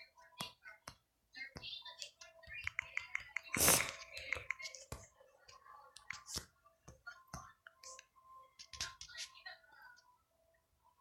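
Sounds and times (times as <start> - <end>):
light clicks and taps drawing: 0.2 - 10.1.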